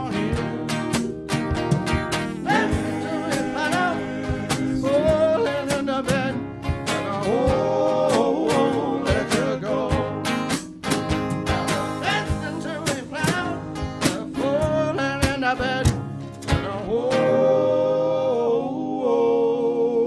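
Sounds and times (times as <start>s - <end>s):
wordless singing: 0.0s - 1.3s, 2.3s - 10.5s, 11.4s - 20.0s
steady beat: 0.0s - 16.9s
acoustic guitar strumming: 0.0s - 18.2s.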